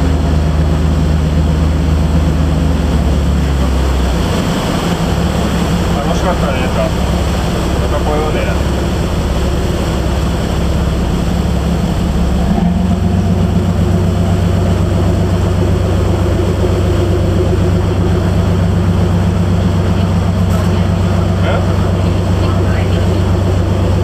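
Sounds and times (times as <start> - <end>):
motorboat engine droning: 0.0 - 24.0
rushing water: 0.0 - 24.0.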